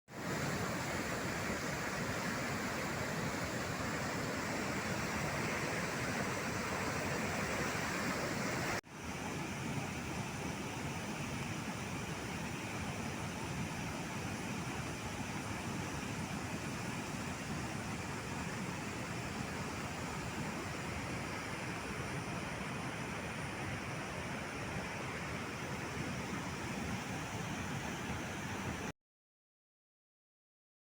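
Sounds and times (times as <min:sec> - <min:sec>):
waterfall roaring: 0:00.2 - 0:28.9.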